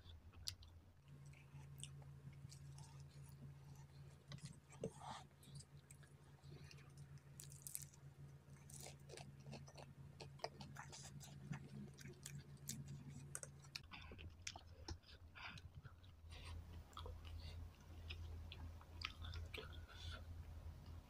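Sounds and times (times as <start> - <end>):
close-up chewing of noodles: 0.0 - 20.3
low steady hum: 0.0 - 21.0.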